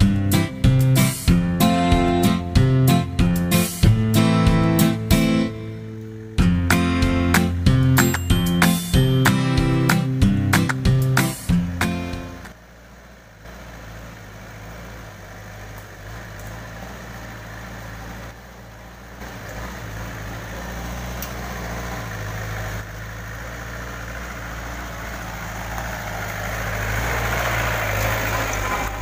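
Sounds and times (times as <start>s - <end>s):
diesel engine pulling: 0.0s - 29.0s.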